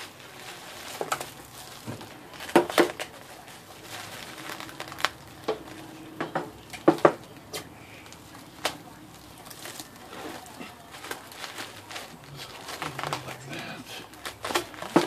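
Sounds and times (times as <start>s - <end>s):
plastic wrap crinkling and crackling: 0.0s - 15.0s.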